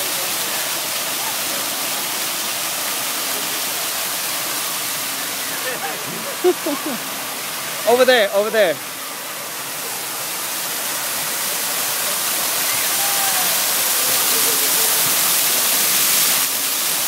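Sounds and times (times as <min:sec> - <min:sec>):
water jets splashing on paving: 0:00.0 - 0:17.0.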